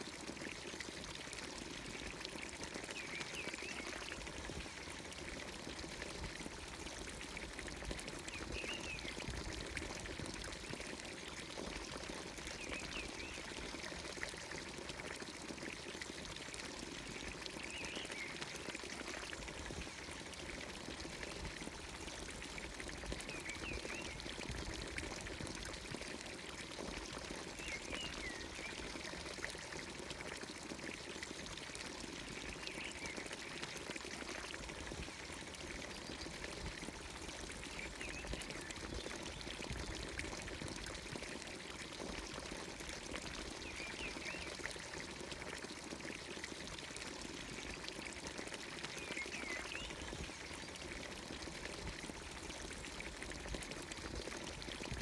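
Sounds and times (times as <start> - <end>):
water pouring into trough: 0.0 - 55.0.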